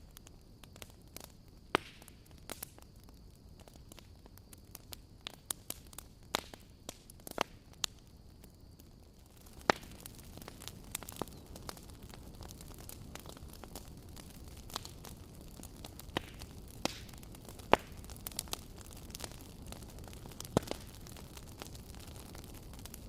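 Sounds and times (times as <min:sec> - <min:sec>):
faint steady hiss: 0:00.0 - 0:23.0
wood fire crackling: 0:00.0 - 0:23.0.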